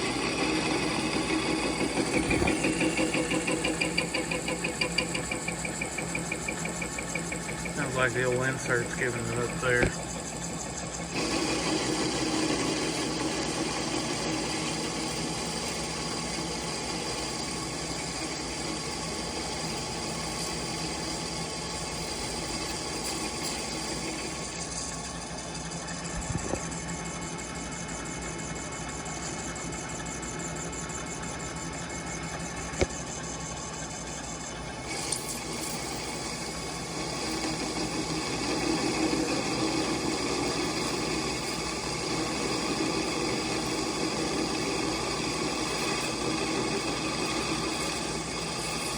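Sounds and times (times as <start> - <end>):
metal lathe cutting: 0.0 - 26.0, 33.7 - 48.9.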